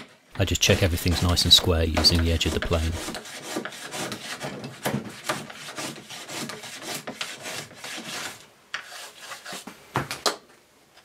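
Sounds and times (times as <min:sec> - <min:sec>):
hand plane rasping on wood: 0:00.5 - 0:09.7.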